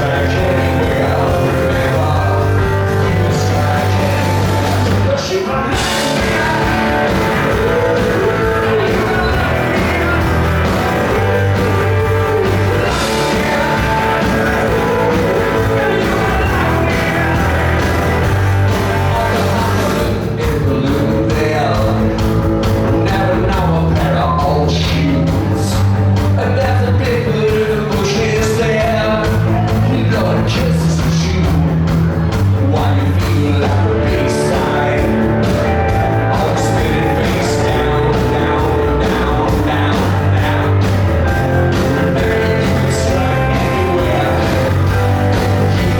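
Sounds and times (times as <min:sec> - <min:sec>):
live rock band playing: 0:00.0 - 0:45.9
man singing: 0:00.0 - 0:45.9.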